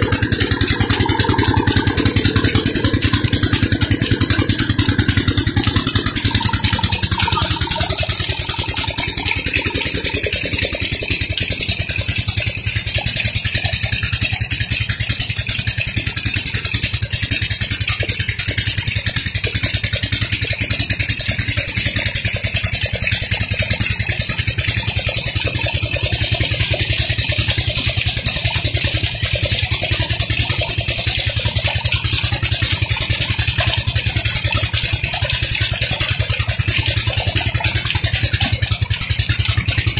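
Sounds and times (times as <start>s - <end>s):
diesel engine chugging: 0.0s - 39.9s
water gushing into tank: 0.0s - 39.9s.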